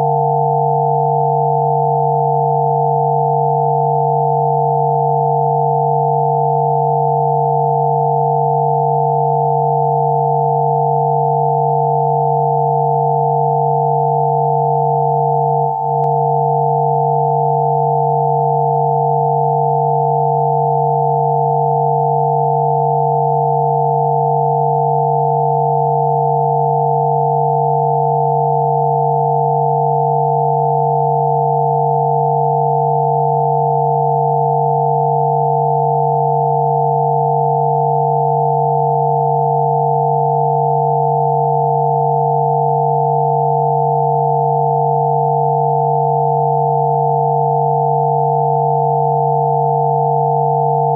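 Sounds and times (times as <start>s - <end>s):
synthesized sine-wave tones: 0.0s - 50.9s.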